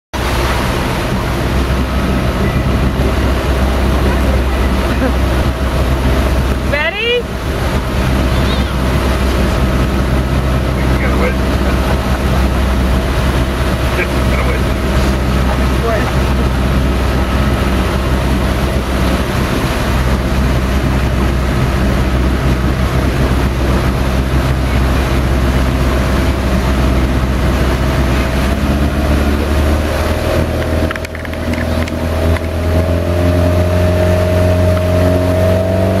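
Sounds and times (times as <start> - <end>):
churning water: 0.1 - 36.0
motorboat engine running: 0.2 - 36.0
wind rushing: 0.2 - 36.0.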